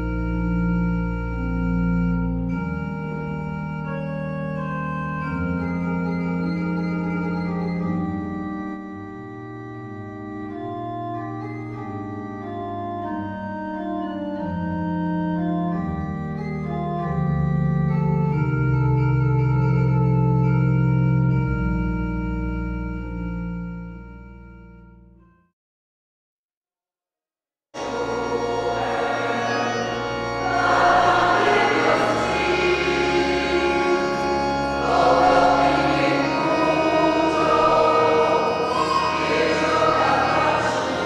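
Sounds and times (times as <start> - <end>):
organ chords: 0.0 - 25.2, 27.8 - 41.0.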